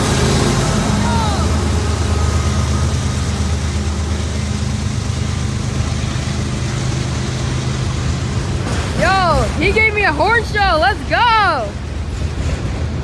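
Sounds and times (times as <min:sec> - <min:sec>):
diesel locomotive engine drone: 0:00.0 - 0:13.0
train wheels rolling on rails: 0:00.0 - 0:13.0.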